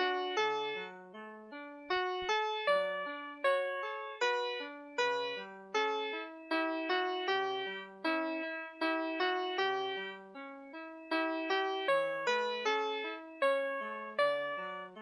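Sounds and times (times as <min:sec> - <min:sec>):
electronic piano melody: 0:00.0 - 0:15.0.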